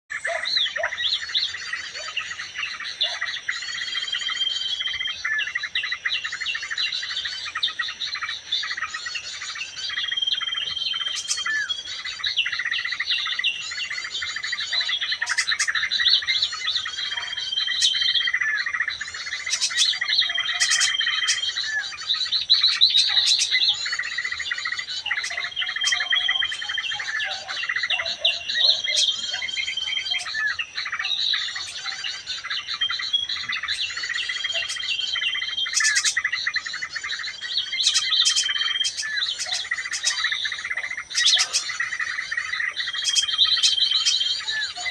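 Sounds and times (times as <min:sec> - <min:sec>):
bird chattering and chirping: 0:00.1 - 0:44.9.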